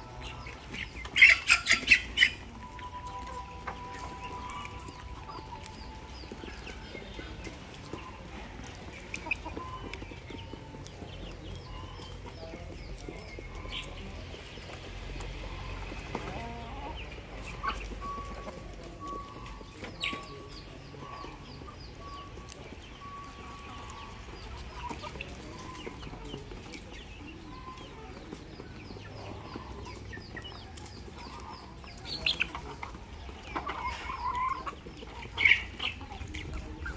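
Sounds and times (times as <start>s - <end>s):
chickens clucking and calling: 0.0s - 36.9s.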